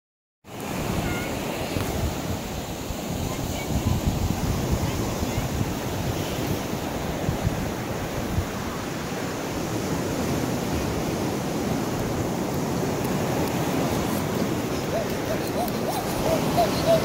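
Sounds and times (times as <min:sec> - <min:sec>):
ocean surf washing on beach: 0:00.5 - 0:17.0
wind buffeting microphone: 0:00.7 - 0:17.0.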